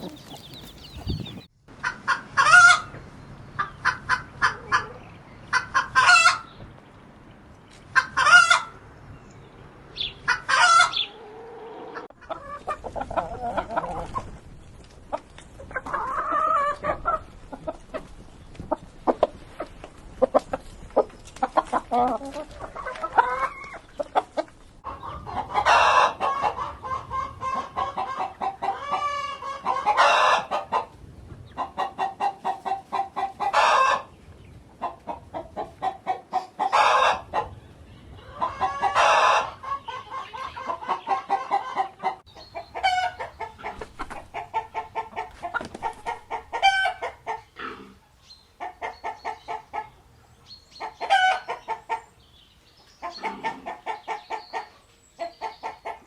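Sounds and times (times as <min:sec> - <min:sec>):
loud drawn-out chicken calls: 0:00.0 - 0:06.7, 0:07.8 - 0:09.0, 0:09.7 - 0:14.5, 0:15.2 - 0:52.3, 0:52.9 - 0:56.0
chickens clucking: 0:00.0 - 0:56.0.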